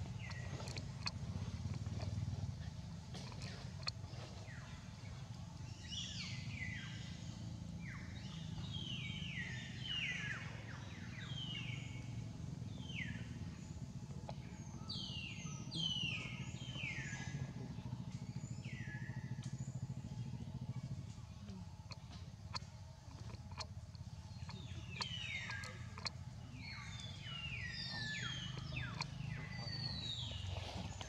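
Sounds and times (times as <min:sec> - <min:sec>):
steady low rumble: 0:00.0 - 0:09.0, 0:10.5 - 0:31.0.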